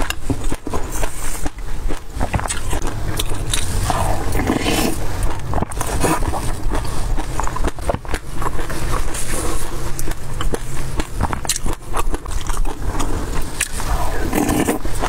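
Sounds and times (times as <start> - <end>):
close chewing and mouth sounds: 0.0 - 15.0.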